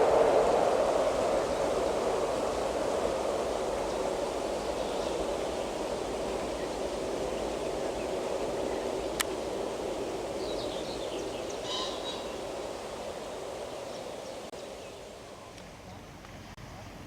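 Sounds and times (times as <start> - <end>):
train rushing rumble: 0.0 - 17.0
birds chirping: 1.0 - 17.0.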